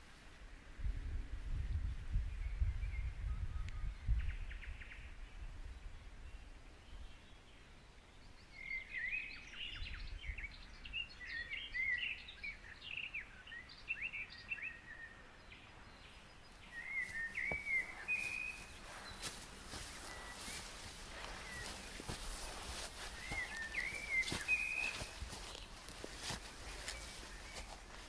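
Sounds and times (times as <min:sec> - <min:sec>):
songbirds singing: 0:02.1 - 0:28.0.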